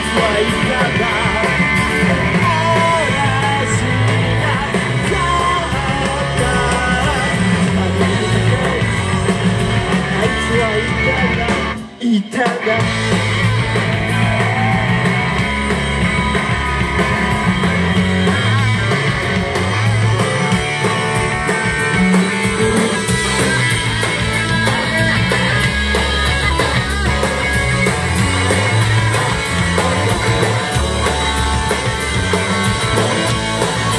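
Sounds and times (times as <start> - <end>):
drum kit: 0.0 - 33.9
electric guitar: 0.0 - 33.9.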